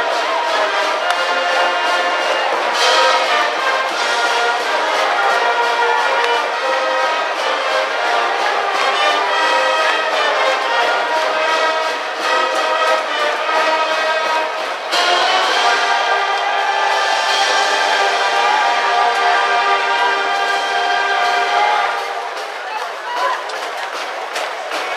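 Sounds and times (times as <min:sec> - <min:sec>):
brass band playing sustained notes: 0:00.0 - 0:24.9.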